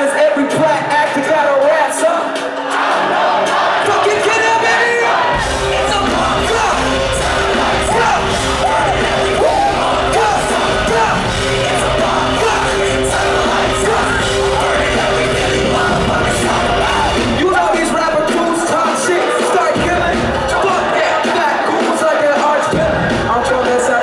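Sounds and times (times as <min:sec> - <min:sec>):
bass-heavy hip hop beat: 0:00.0 - 0:24.0
rapping and shouting vocals: 0:00.0 - 0:24.0.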